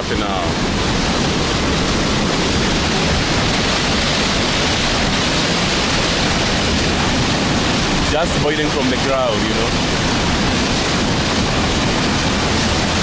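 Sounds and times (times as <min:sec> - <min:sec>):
water rushing over ledge: 0:00.0 - 0:13.0.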